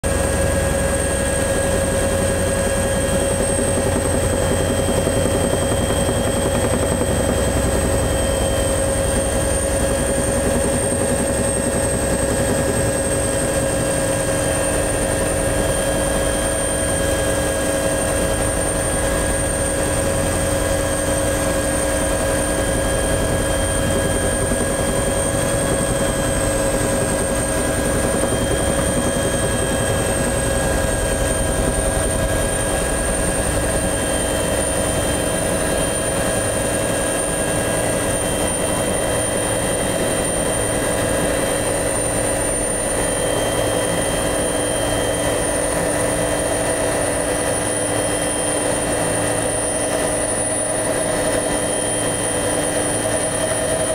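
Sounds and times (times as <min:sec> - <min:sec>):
helicopter rotor drone: 0:00.0 - 0:53.9.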